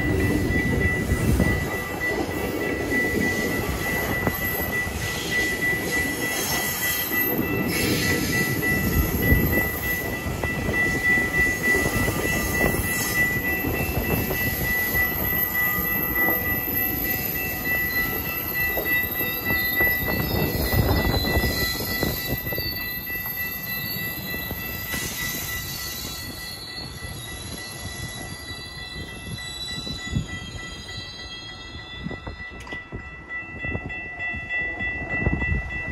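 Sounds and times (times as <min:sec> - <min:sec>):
crossing warning bell ringing: 0:00.0 - 0:35.9
train wheels clattering on rails: 0:00.0 - 0:35.9.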